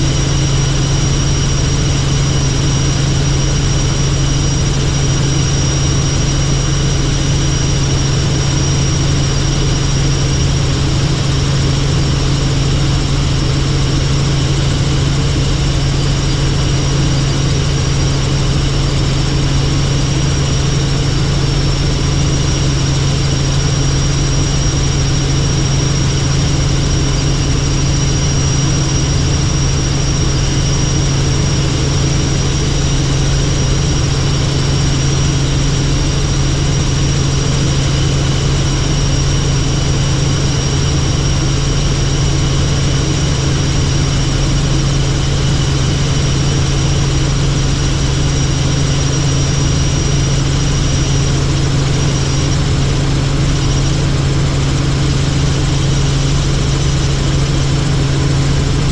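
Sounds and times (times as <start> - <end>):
helicopter rotor and engine drone: 0.0 - 58.9.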